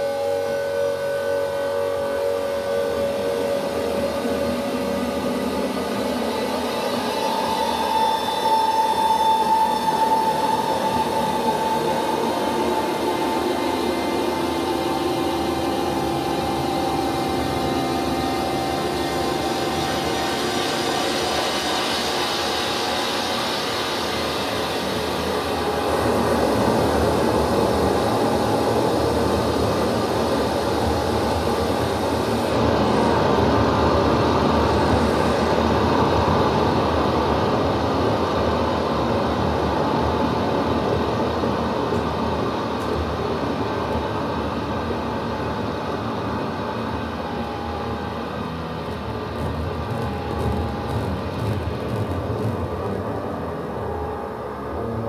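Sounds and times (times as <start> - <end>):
droning electronic sound: 0.0 - 55.0.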